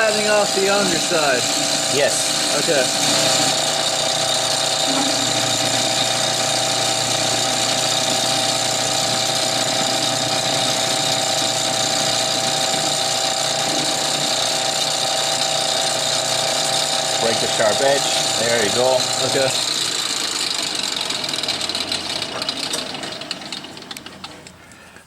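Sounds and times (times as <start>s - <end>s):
metal lathe machining pipe: 0.0s - 24.6s.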